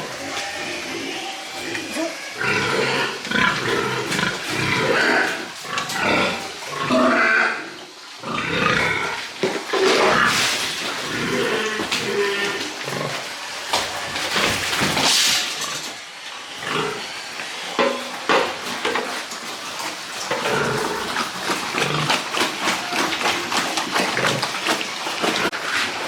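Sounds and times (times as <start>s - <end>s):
pigs grunting: 0.0s - 26.0s.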